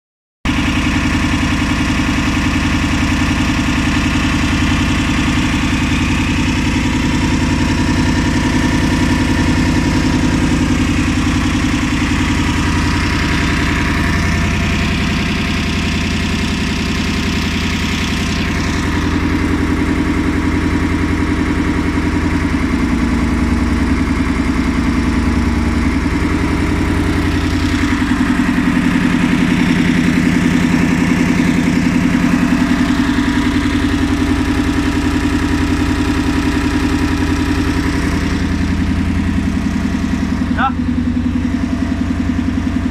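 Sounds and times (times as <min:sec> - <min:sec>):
diesel engine running: 0:00.5 - 0:42.9.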